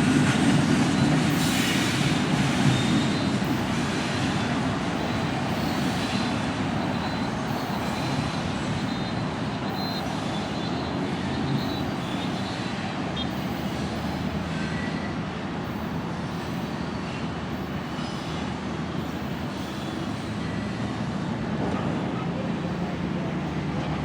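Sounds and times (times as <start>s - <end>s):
freight train running by: 0.0s - 24.0s.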